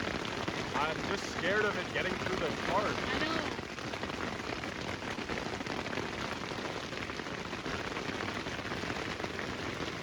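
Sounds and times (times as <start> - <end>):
heavy rain on a tarp: 0.0 - 10.0.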